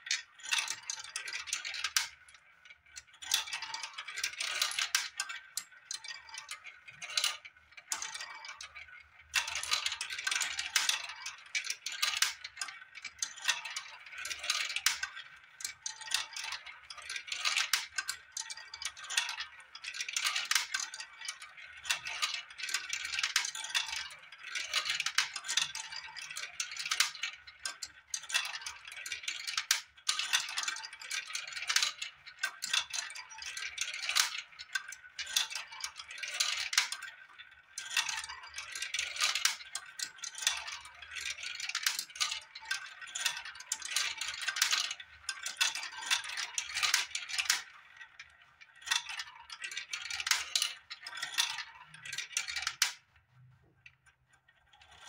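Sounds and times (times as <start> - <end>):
balls clattering down a marble run: 0.0 - 53.1.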